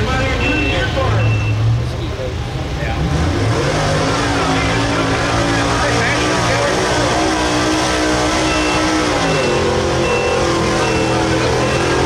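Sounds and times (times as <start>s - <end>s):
pickup engine running under load: 0.0s - 12.0s.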